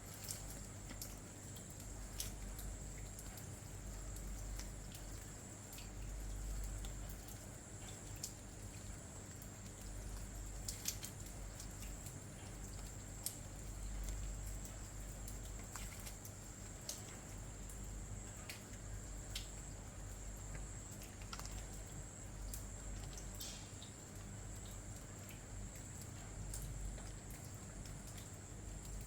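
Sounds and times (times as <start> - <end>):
rain pattering: 0.0 - 29.0.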